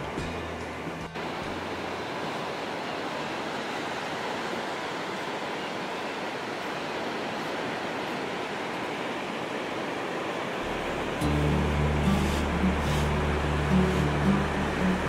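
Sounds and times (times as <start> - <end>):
surf washing onto beach: 0.0 - 15.0.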